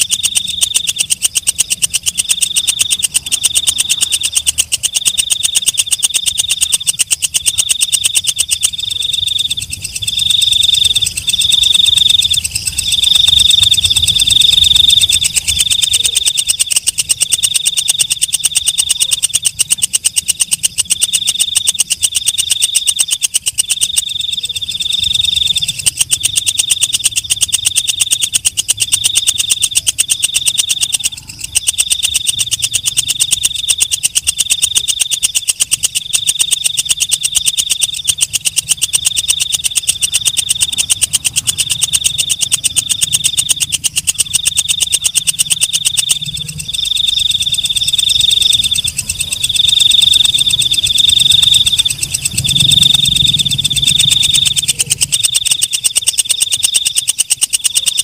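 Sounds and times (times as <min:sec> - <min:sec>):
katydid buzzing trill: 0:00.0 - 0:58.0.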